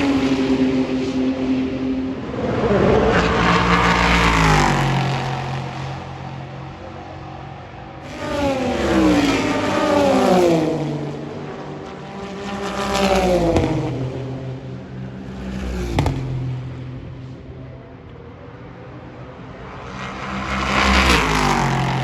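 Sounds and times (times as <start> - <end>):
race cars passing: 0.0 - 22.0.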